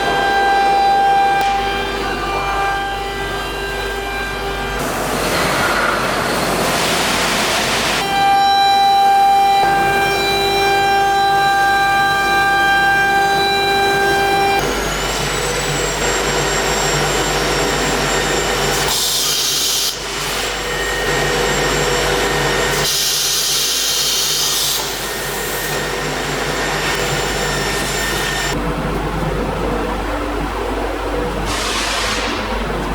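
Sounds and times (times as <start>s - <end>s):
router spindle whine: 0.0s - 31.6s.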